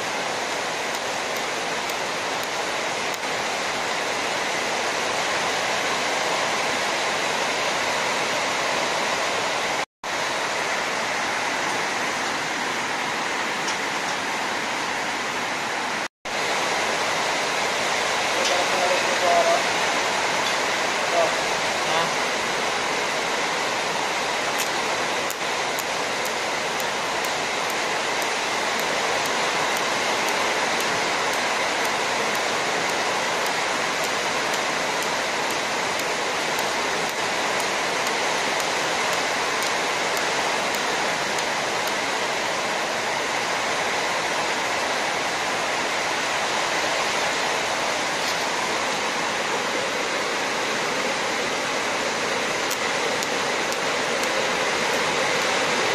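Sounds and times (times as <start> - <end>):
steady hiss: 0.0 - 55.9.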